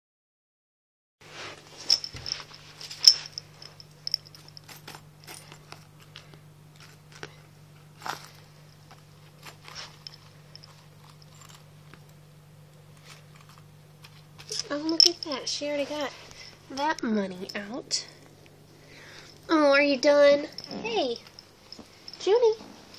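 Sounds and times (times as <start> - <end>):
faint low hum: 1.3 - 22.9.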